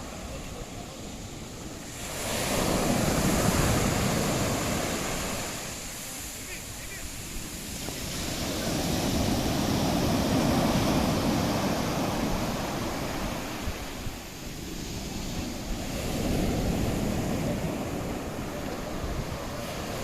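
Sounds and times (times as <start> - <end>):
sea waves breaking on beach: 0.0 - 20.0.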